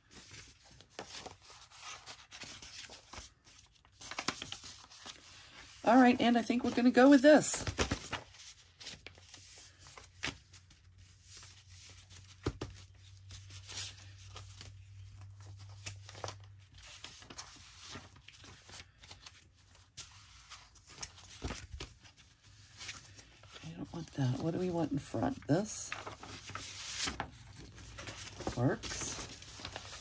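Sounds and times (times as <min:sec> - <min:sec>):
paper pages rustling: 0:00.0 - 0:30.0.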